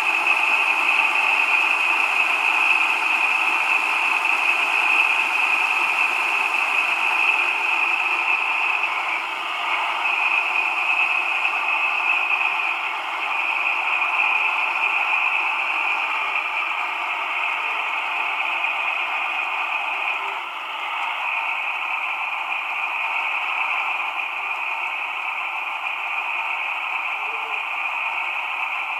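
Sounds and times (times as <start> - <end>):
locomotive diesel engine running: 0.0 - 28.9.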